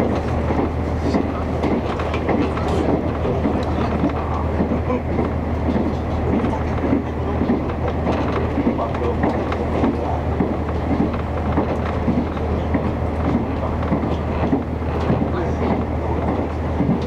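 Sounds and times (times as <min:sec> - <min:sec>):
wheel-on-rail rumble: 0:00.0 - 0:17.0.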